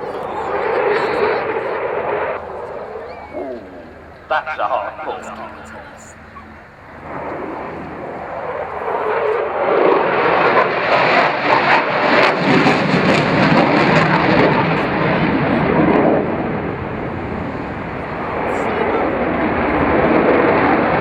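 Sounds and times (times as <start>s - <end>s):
jet engines roaring with crackle: 0.0s - 21.0s.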